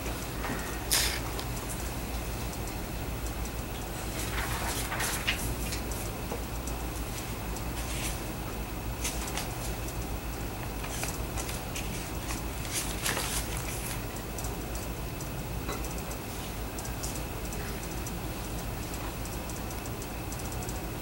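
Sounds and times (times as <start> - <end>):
low hum with hiss: 0.0 - 21.0
faint ticks and rustles: 0.1 - 21.0.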